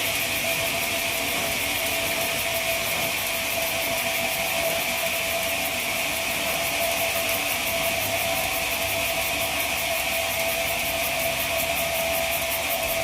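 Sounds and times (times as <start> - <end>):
sawmill machinery whining: 0.0 - 13.0.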